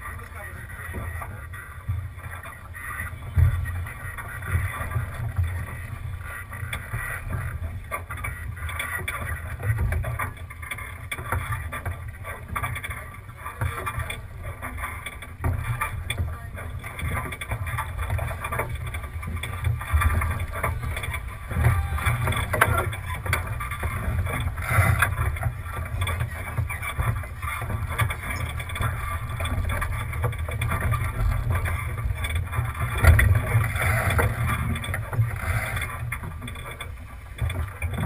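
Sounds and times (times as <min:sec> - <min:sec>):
water rushing along hull: 0:00.0 - 0:38.0
wind rumbling on microphone: 0:00.0 - 0:38.0.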